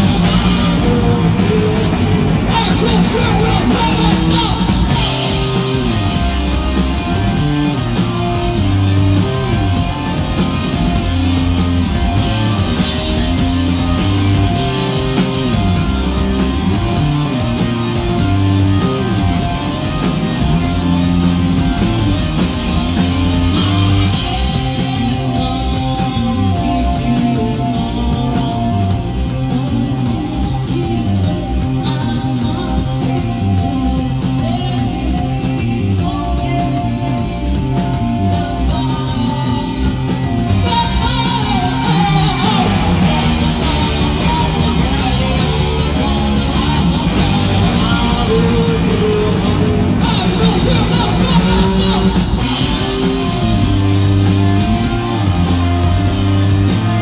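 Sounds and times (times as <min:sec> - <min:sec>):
bass guitar line: 0:00.0 - 0:57.0
live rock band playing: 0:00.0 - 0:57.0.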